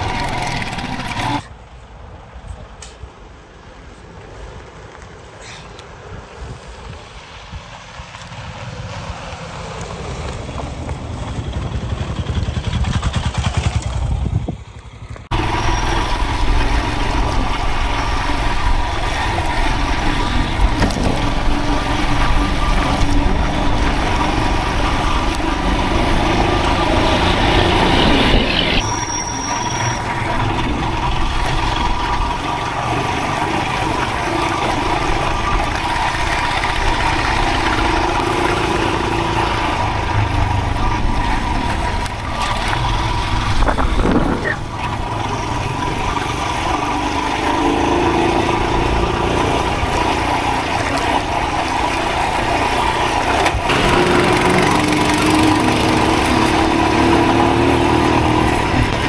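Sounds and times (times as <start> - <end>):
motorcycle engine running: 0.0 - 1.4, 10.2 - 28.9, 30.2 - 59.0
vehicles passing on dirt road: 0.0 - 59.0.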